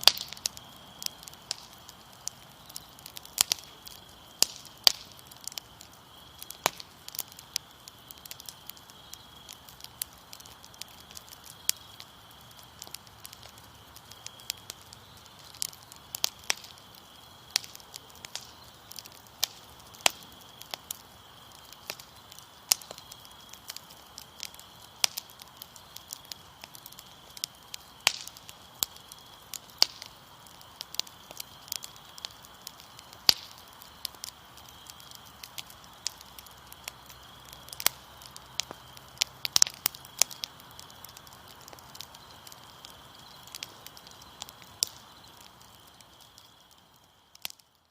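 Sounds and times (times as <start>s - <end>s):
crickets trilling: 0.0s - 47.6s
fire crackling: 0.0s - 47.9s.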